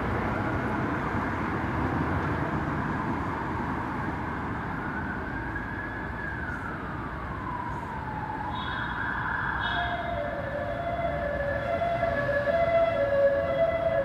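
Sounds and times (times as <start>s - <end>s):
road traffic rumble: 0.0s - 14.0s
emergency vehicle siren wailing: 2.2s - 14.0s.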